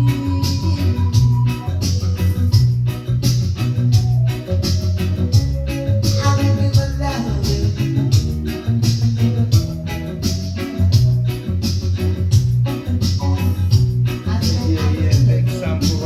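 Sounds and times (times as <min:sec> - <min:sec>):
reggae music: 0:00.0 - 0:16.0.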